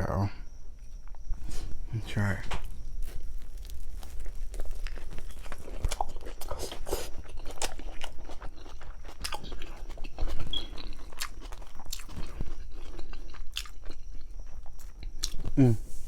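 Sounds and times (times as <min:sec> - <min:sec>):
biting and chewing: 0:02.5 - 0:15.6.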